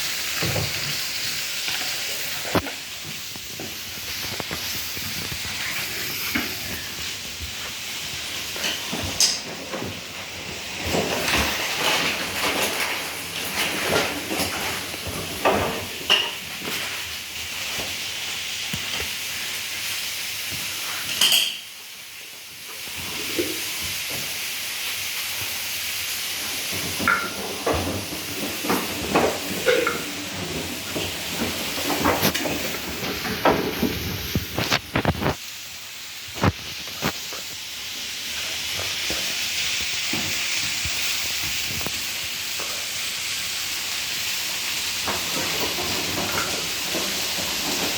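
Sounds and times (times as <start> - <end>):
washing machine water rushing: 0.0 - 21.2, 21.8 - 47.9.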